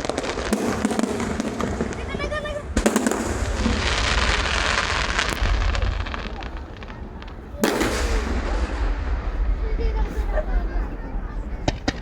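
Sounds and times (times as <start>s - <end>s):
fireworks crackling: 0.0s - 12.0s
loud firework bang: 0.0s - 12.0s.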